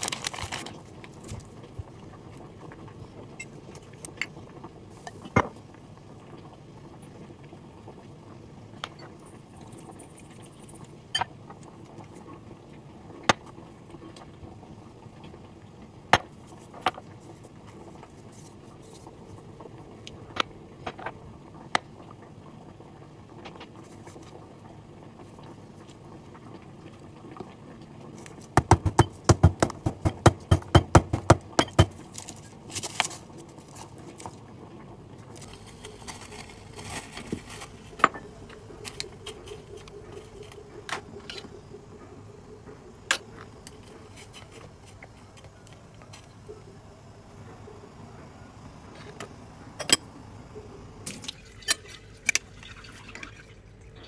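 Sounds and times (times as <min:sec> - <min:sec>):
faint hiss from pot on stove: 0:00.0 - 0:53.0.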